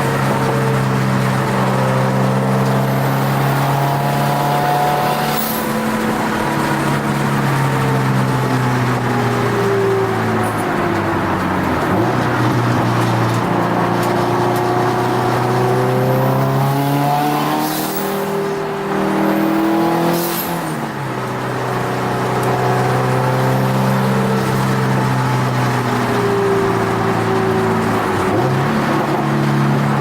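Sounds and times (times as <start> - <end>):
car engine revving through gears: 0.0 - 30.0.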